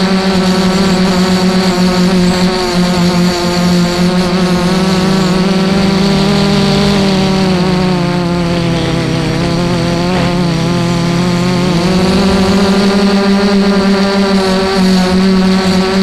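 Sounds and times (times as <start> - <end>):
quadcopter motors buzzing whine: 0.0 - 16.0.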